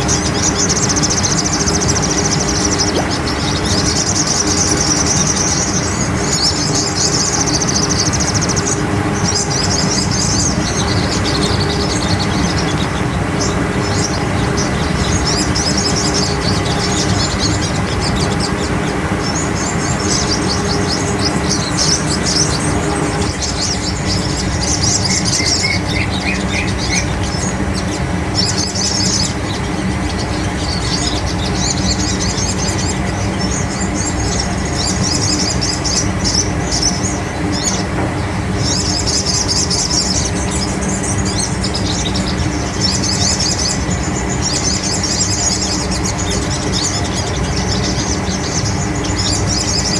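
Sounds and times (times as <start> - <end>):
high-pitched bird trills: 0.0 - 49.9
steady low hum: 0.0 - 49.9.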